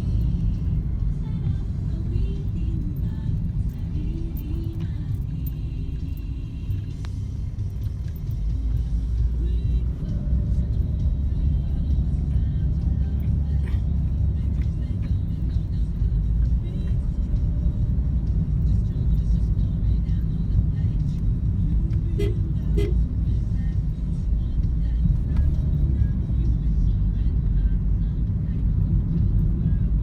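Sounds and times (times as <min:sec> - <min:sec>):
faint background music: 0:00.0 - 0:30.0
low rumble: 0:00.0 - 0:30.0.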